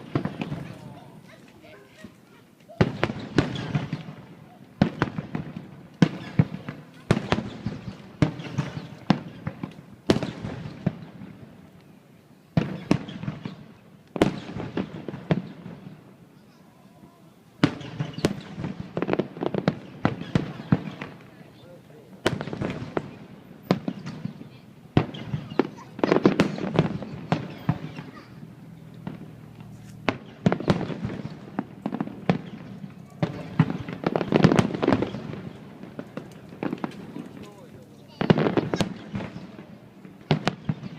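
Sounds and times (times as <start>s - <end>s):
firework bangs with echo: 0.0s - 1.2s, 2.7s - 11.7s, 12.5s - 16.5s, 17.6s - 40.9s.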